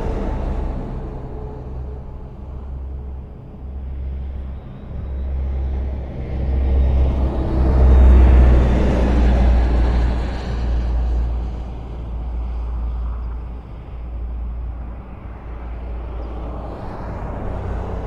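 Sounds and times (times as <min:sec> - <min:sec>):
highway traffic rumble: 0:00.0 - 0:18.0.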